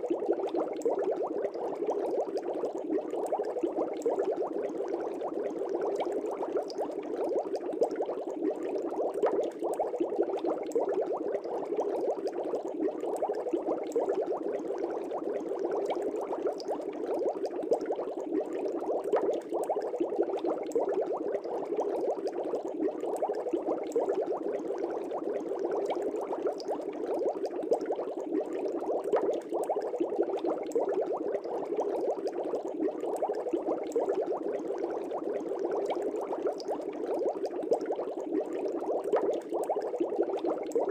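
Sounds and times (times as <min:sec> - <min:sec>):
aquarium air bubbles bubbling: 0:00.0 - 0:40.9.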